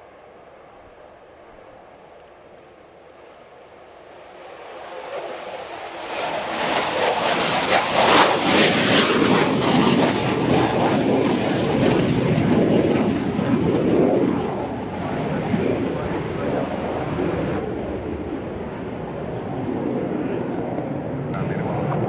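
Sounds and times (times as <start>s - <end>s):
aircraft engine passing: 0.0s - 22.0s.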